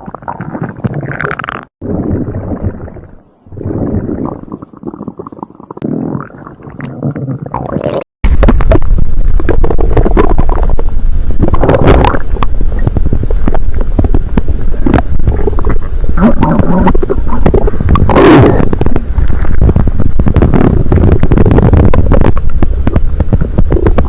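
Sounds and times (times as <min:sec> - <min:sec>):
stomach growling and gurgling: 0:00.0 - 0:24.0.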